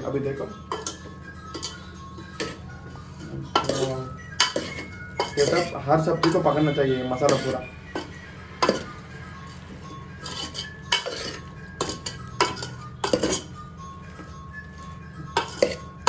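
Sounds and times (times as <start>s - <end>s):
metal spoon stirring in a pot: 0.4s - 16.0s
spoon clinking against metal pot: 0.4s - 16.0s.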